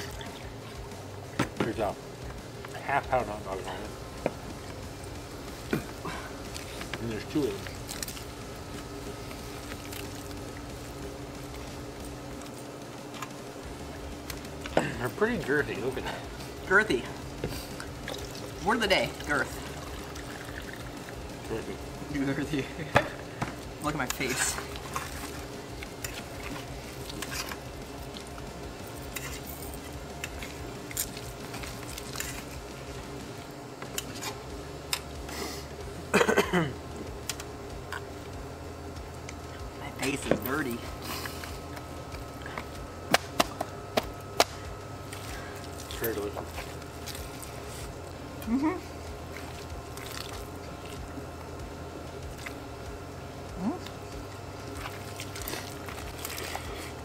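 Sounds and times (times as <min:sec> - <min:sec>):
dining room hum: 0:00.0 - 0:57.0.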